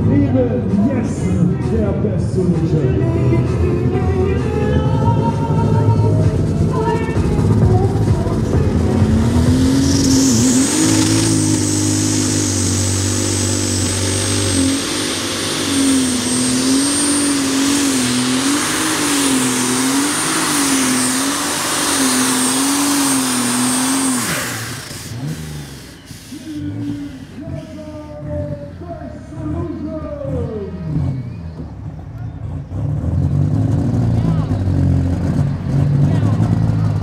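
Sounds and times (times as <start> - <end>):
diesel engine at full power: 0.0 - 37.0.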